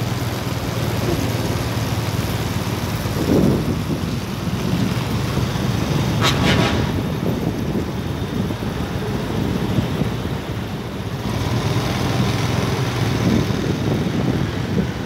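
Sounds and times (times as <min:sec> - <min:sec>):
wind buffeting microphone: 0:02.3 - 0:15.0.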